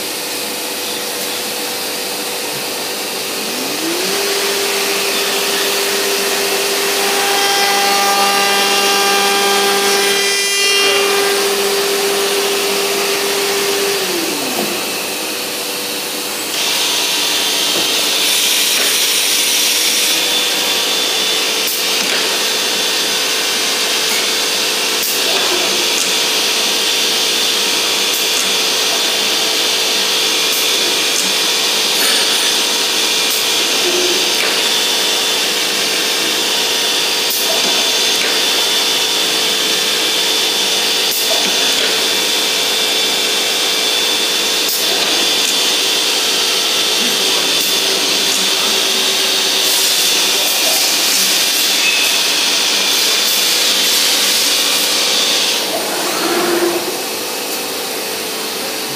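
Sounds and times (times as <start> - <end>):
router spindle whine: 0.0 - 58.9.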